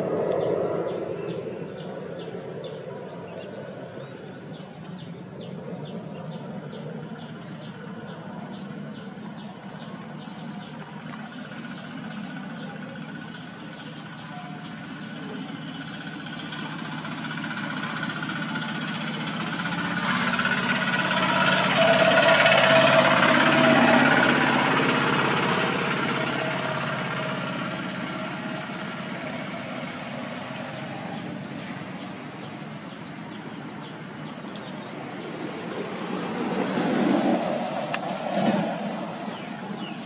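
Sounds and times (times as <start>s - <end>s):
passing vehicle engine: 0.0s - 40.0s.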